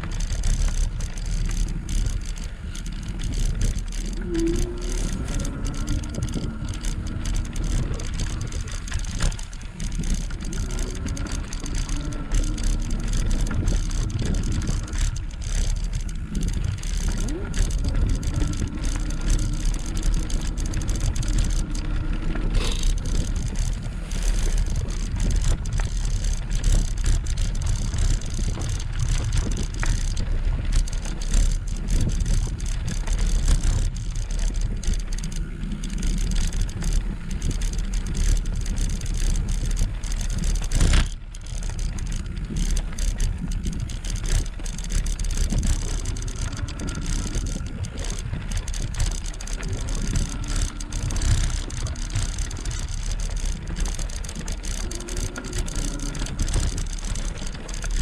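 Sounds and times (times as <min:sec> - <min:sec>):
wind over microphone: 0:00.0 - 0:58.0.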